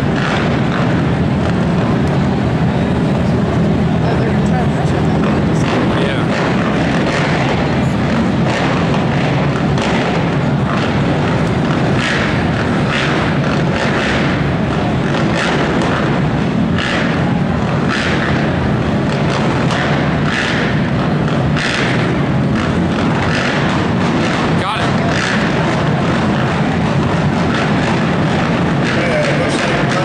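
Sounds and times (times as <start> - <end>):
atv engines running: 0.0 - 30.0.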